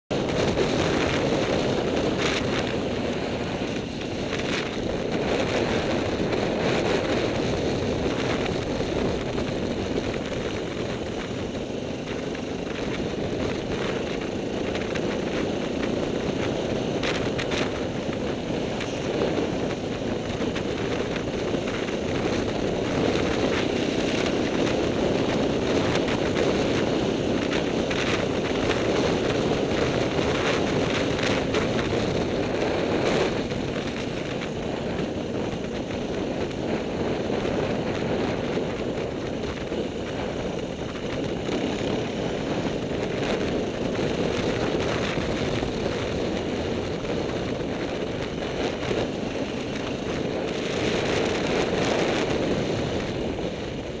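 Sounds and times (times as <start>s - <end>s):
motorcycle engine: 0.1s - 54.0s
wind buffeting microphone: 0.1s - 54.0s.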